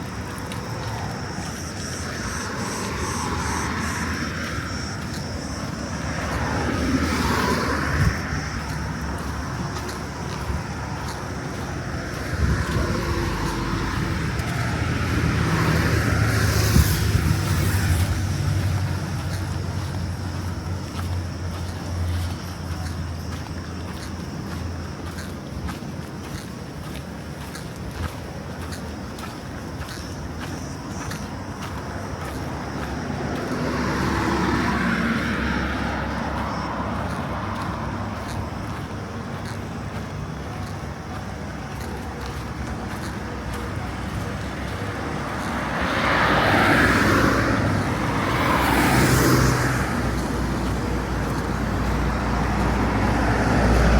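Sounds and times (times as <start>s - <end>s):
motor vehicle passing: 0.0s - 25.3s, 29.8s - 53.9s
cicadas buzzing: 0.0s - 53.9s
traffic engine rumble: 0.0s - 53.9s.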